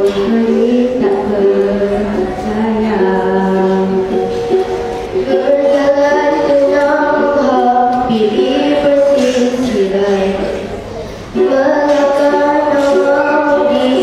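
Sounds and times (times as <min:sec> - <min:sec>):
children singing into microphones: 0:00.0 - 0:14.0.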